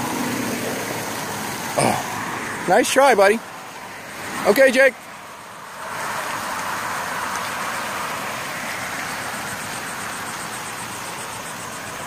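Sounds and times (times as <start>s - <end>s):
vehicle rushing past on road: 0.0s - 12.0s.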